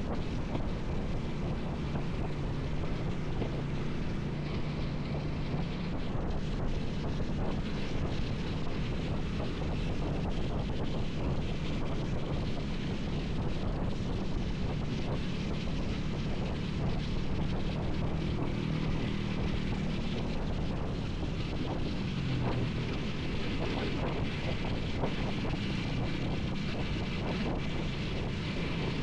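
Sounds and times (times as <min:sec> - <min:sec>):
motorcycle engine drone: 0:00.0 - 0:29.0
road noise: 0:00.0 - 0:29.0
wind buffeting microphone: 0:00.0 - 0:29.0.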